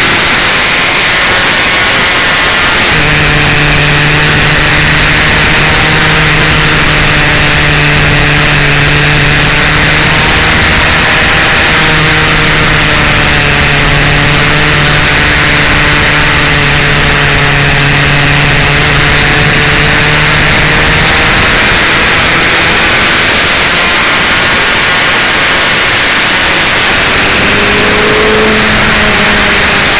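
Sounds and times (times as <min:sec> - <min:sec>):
motorcycle engine droning: 0:00.0 - 0:29.9.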